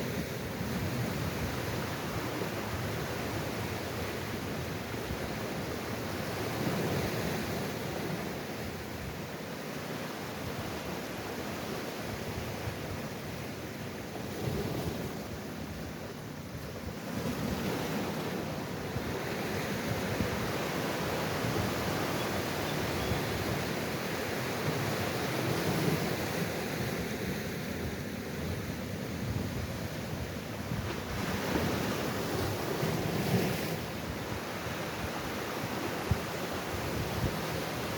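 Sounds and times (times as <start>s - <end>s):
sea waves surging: 0.0s - 37.9s.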